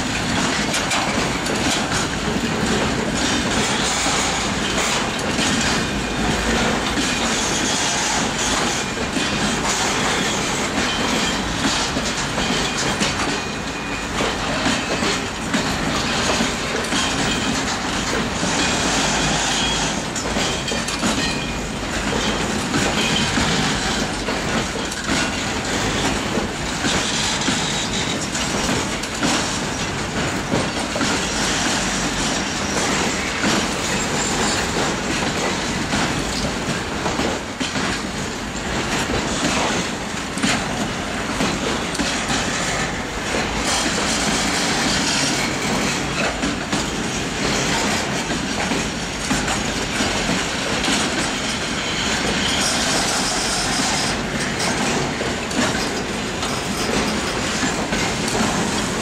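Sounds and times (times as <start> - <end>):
freight train wagons rolling past: 0.0 - 59.0
wheels clicking over rail joints: 0.0 - 59.0.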